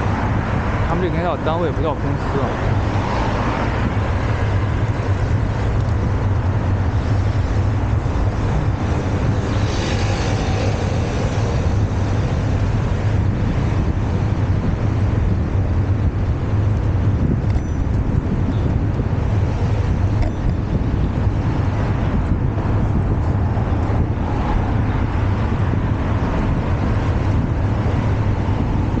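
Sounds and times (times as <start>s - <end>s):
road traffic passing: 0.0s - 29.0s
wind rumble on microphone: 0.0s - 29.0s.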